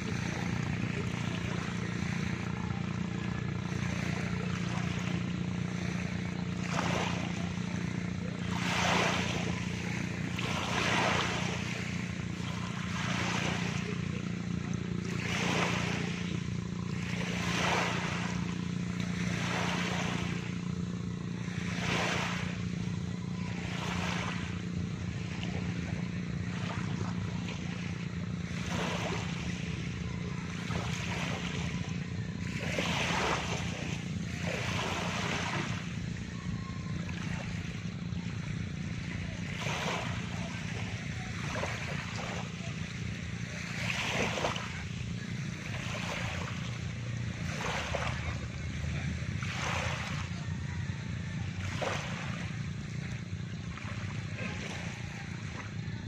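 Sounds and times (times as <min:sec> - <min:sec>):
low engine-like drone: 0:00.0 - 0:56.0
waves lapping on shore: 0:00.0 - 0:56.0.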